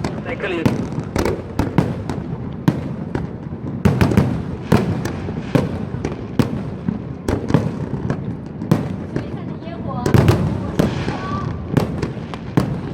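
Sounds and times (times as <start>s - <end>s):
fireworks bangs: 0.0s - 12.9s
rumble of fireworks bursts: 0.0s - 12.9s.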